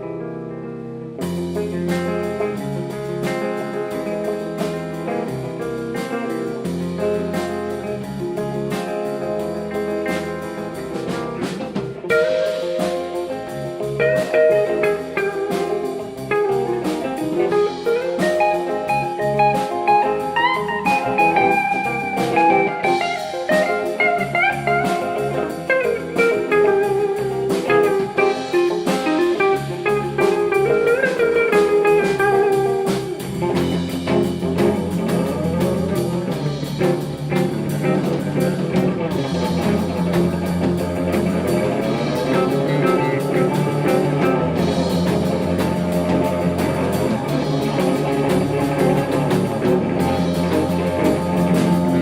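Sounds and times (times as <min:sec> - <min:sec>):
blues guitar music with drums: 0:00.0 - 0:52.0.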